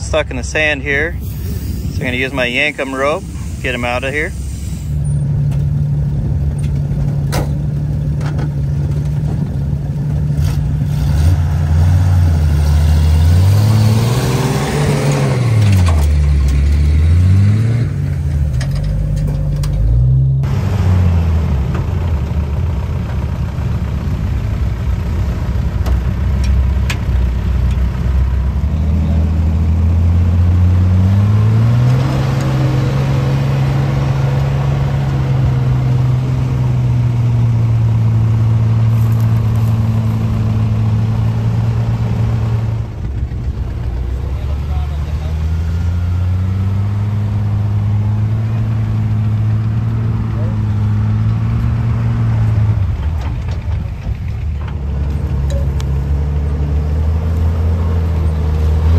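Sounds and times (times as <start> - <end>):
truck engine revving: 0.0 - 24.0, 27.3 - 58.9.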